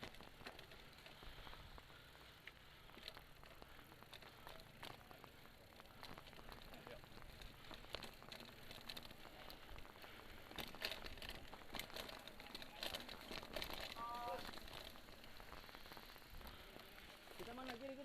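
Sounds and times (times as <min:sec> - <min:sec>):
bike clicks and rattles: 0:00.0 - 0:18.0
tyres crunching on dirt: 0:00.0 - 0:18.0.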